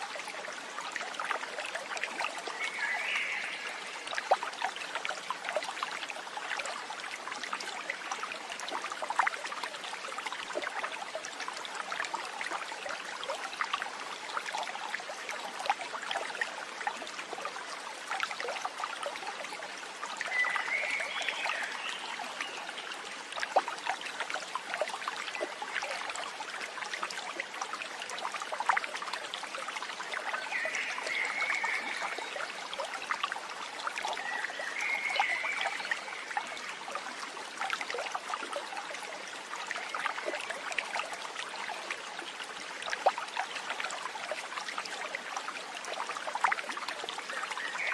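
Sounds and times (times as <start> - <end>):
stream babbling over stones: 0.0 - 47.9.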